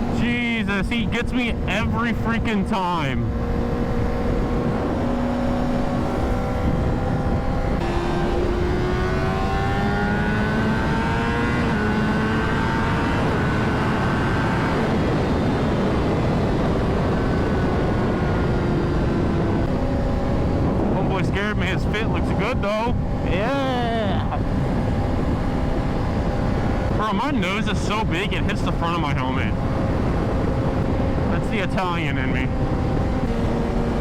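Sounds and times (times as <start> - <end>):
motorcycle engine at speed: 0.0 - 34.0
wind rush: 0.0 - 34.0.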